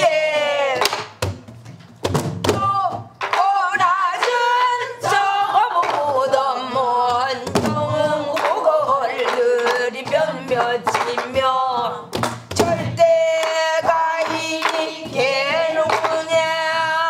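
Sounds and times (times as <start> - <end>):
woman singing folk song: 2.6 - 17.0.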